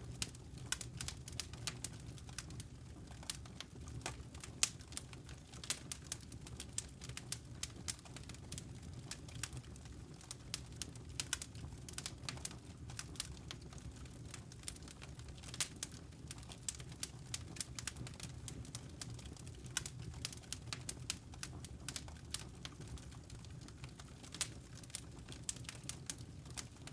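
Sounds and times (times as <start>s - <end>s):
low rumble of burning: 0.0s - 26.9s
wood fire crackling: 0.0s - 26.9s.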